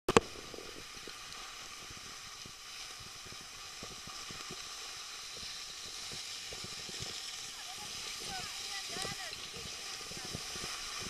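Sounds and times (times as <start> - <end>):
skis sliding on packed snow: 0.2 - 11.0.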